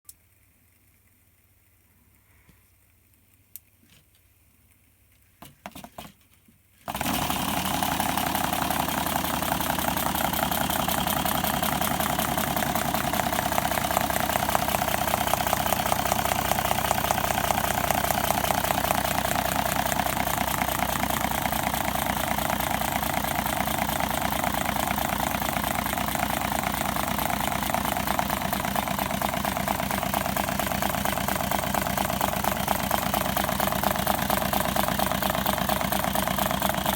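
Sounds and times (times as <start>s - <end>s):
engine running with mechanical rattle: 5.4s - 36.9s.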